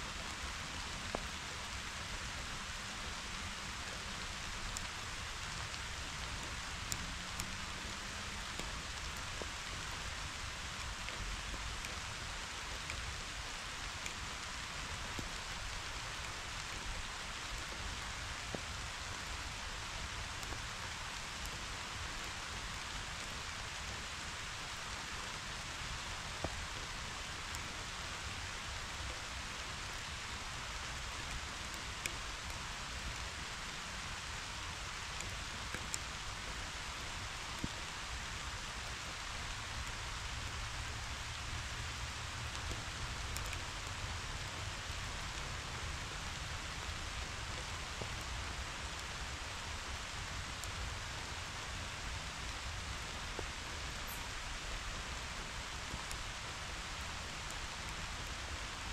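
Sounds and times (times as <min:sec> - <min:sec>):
rain on grass and leaves: 0:00.0 - 0:58.9.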